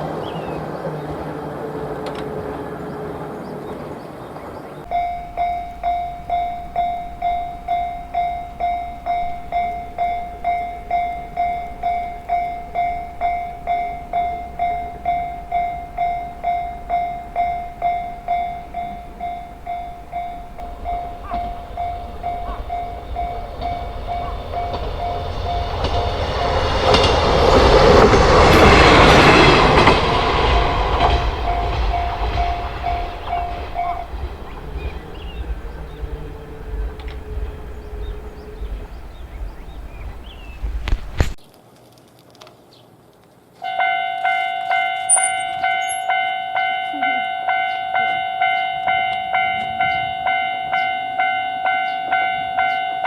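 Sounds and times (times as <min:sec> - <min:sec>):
train passing: 0:00.0 - 0:41.4, 0:43.6 - 0:53.0
railroad crossing alarm ringing: 0:04.8 - 0:41.0, 0:43.6 - 0:53.0.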